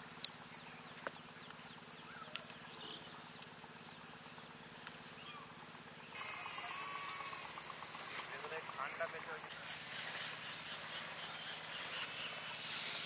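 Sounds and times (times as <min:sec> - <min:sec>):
insects trilling: 0:00.0 - 0:13.0
bird chirps: 0:00.2 - 0:13.0.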